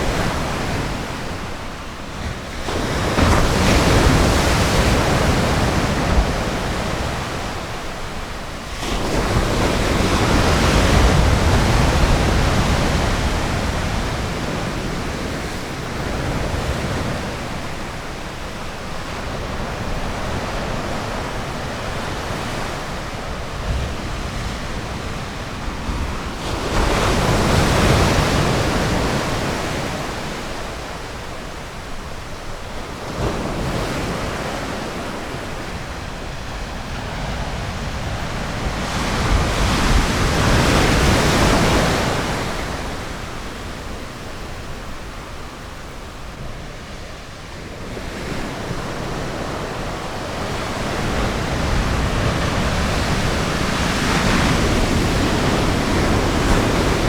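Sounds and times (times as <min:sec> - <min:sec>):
ocean surf washing on beach: 0:00.0 - 0:57.0.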